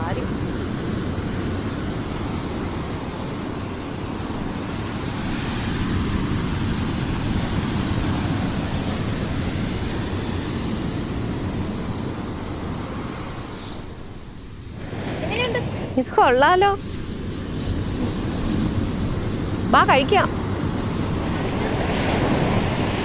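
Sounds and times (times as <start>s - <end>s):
sea surf washing: 0.0s - 23.0s
wind on the microphone: 0.0s - 23.0s.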